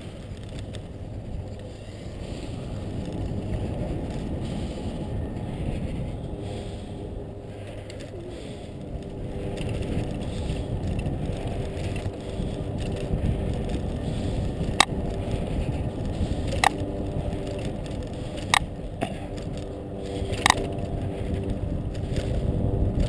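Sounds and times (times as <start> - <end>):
bicycle tyre and wind noise: 0.0 - 23.0
wheels clacking over pavement joints: 0.0 - 23.0.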